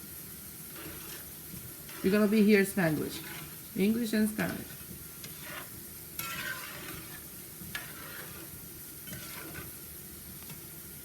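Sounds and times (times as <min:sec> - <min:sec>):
seasonings sizzling in oil: 0:00.0 - 0:11.0
spoon scraping pot: 0:00.7 - 0:09.8.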